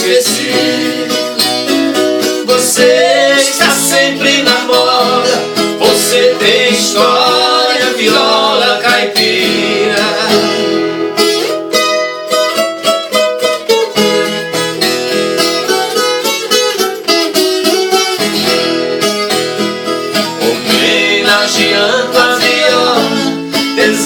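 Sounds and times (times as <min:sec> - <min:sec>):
accompanying strings: 0:00.0 - 0:24.0
plucked guitar notes: 0:00.0 - 0:24.0.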